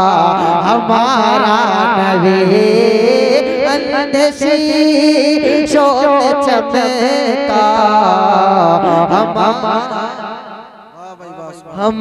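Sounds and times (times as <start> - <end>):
man singing into a microphone: 0.0 - 10.4, 11.1 - 12.0.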